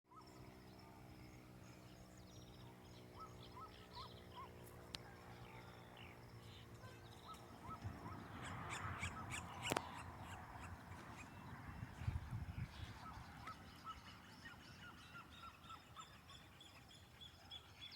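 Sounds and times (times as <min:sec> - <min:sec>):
birds calling: 0:00.1 - 0:17.9
steady low hum: 0:00.2 - 0:17.4.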